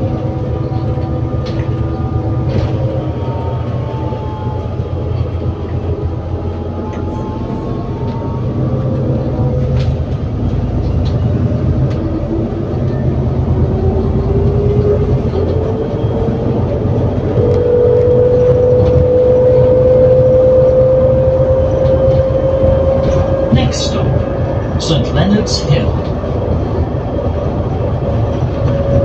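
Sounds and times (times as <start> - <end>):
gearbox whine rising in pitch: 0.0 - 25.3, 25.9 - 29.0
bus engine rumble: 0.0 - 29.0.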